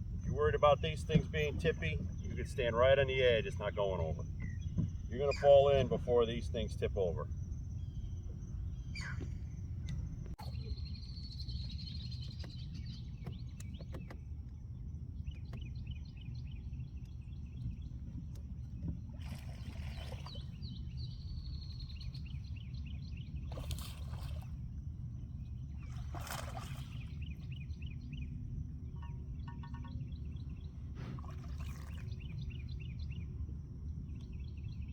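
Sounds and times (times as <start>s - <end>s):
birds chirping: 0.0s - 34.9s
wind rumble on microphone: 0.0s - 34.9s.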